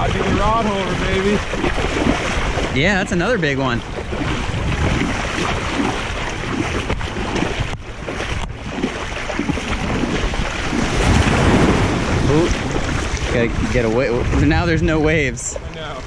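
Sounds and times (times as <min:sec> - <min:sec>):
small waves washing: 0:00.0 - 0:16.0
wind on microphone: 0:00.0 - 0:16.0.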